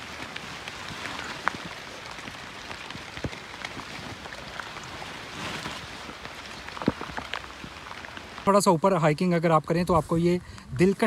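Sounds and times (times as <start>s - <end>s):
rain hissing: 0.0s - 11.0s
raindrops ticking: 0.0s - 11.0s.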